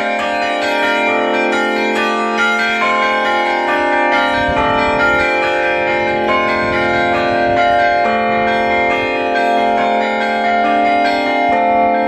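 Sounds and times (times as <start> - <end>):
church bells pealing: 0.0 - 12.0.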